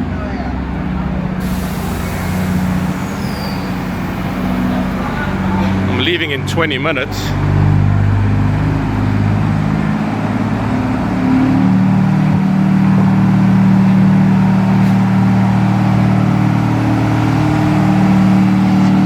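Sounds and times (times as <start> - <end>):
diesel train engine running: 0.0 - 19.0.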